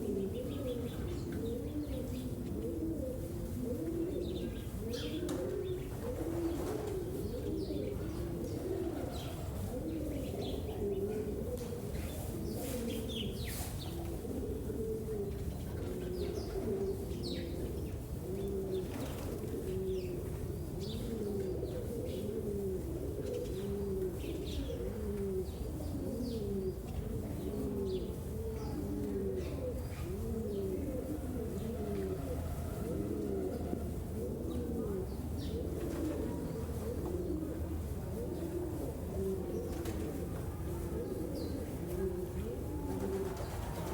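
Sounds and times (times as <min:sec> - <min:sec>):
pigeons cooing: 0:00.0 - 0:43.9.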